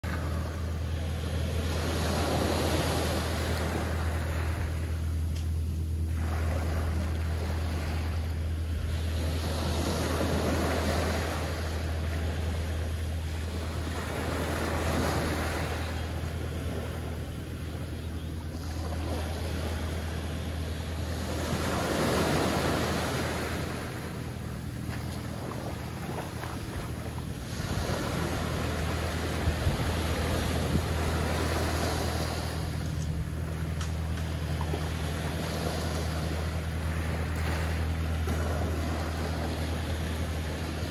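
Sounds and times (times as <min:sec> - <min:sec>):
small waves breaking on sand: 0:00.0 - 0:17.8, 0:18.4 - 0:40.9
steady low rumble: 0:00.0 - 0:40.9.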